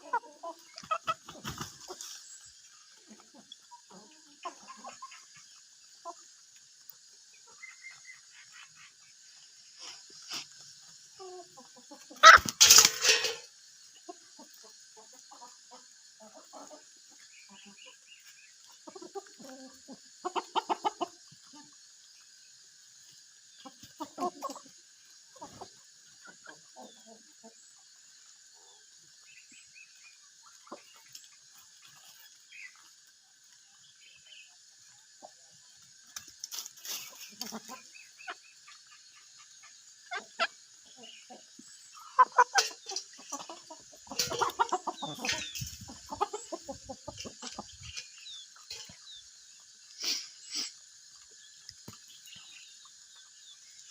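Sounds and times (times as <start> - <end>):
chickens clucking: 0.0 - 53.9
steady high hiss: 0.0 - 53.9.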